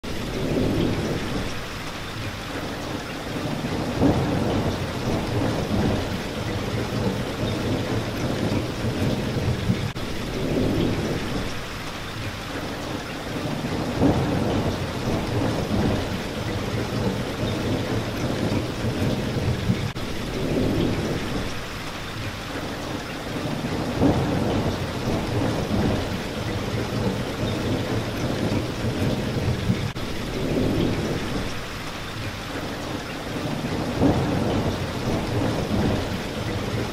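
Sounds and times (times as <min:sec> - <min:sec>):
rain hitting a window: 0:00.0 - 0:36.9.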